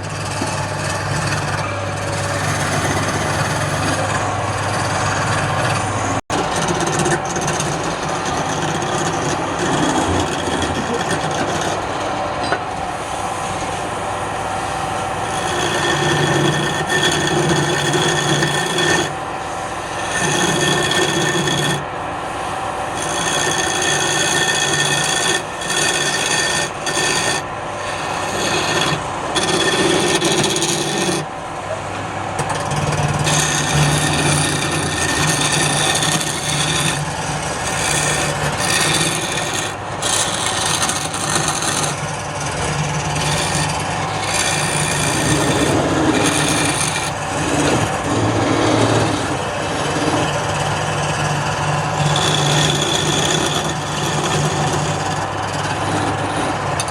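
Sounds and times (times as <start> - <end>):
turning tool scraping wood: 0.0 - 56.9
wood lathe running: 0.0 - 56.9.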